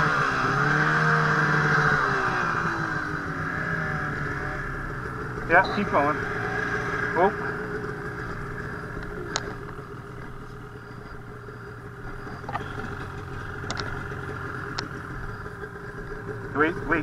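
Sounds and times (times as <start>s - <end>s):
snowmobile engine idling: 0.0s - 17.0s.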